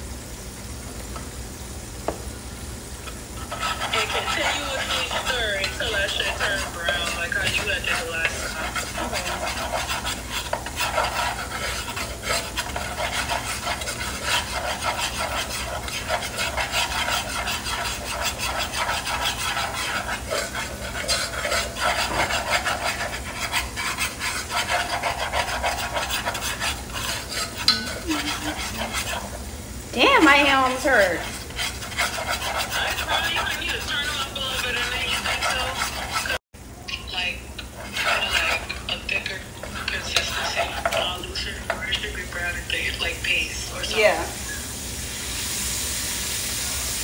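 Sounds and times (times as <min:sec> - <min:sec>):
food sizzling in frying pan: 0:00.0 - 0:47.0
spoon scraping metal saucepan: 0:03.1 - 0:44.6.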